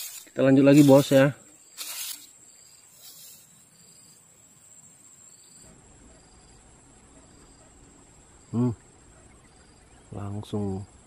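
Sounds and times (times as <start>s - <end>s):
insects trilling and chirping: 0.0s - 11.0s
low background hiss: 0.0s - 11.0s.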